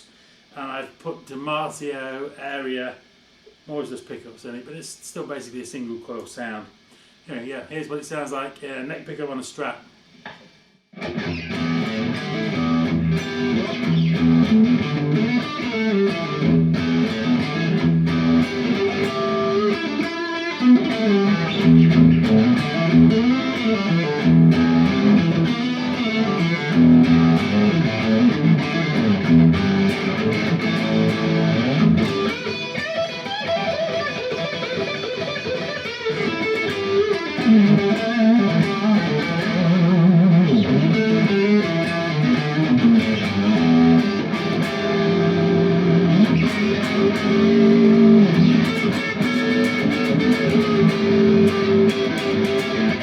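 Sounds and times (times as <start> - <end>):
distorted electric guitar chords: 10.1 - 53.0.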